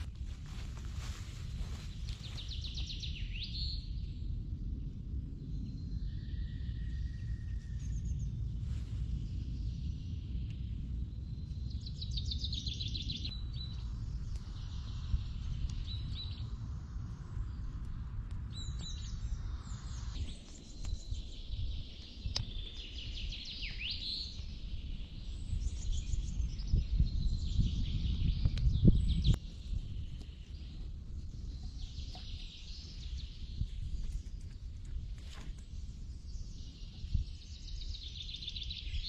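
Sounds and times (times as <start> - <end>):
songbirds trilling and chirping: 0.0 - 39.0
steady low rumble: 0.0 - 39.0.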